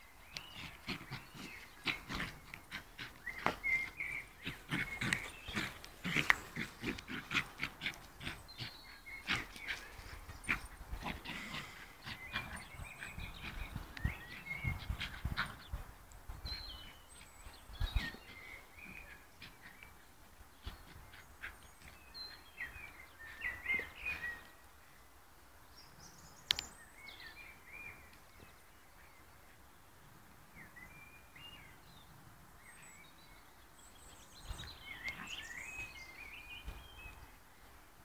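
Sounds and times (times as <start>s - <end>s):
small birds chirping and twittering: 0.0s - 38.0s.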